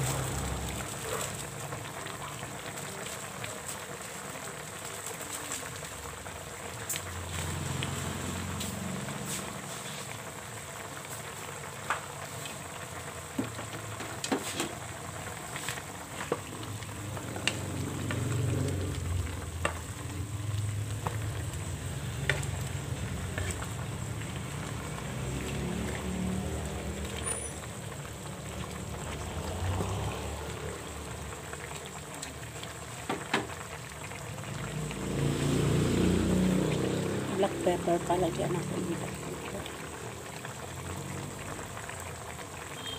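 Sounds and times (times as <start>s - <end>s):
stew simmering and bubbling: 0.0s - 42.9s.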